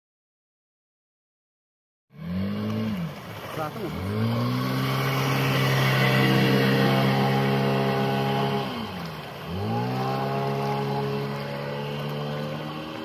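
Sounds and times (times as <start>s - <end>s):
outboard motor revving: 2.1s - 13.0s.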